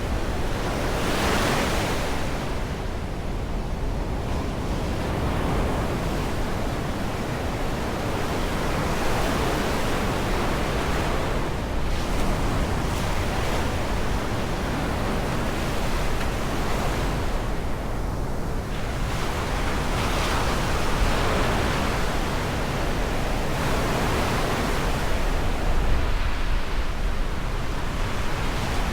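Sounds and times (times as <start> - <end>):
wind rumbling on microphone: 2.0 - 28.9.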